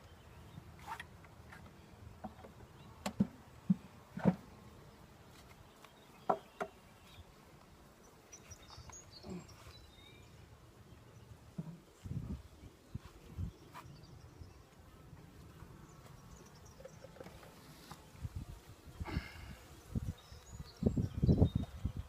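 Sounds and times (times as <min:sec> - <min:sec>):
honeybees humming: 0:02.0 - 0:13.3, 0:13.9 - 0:22.0.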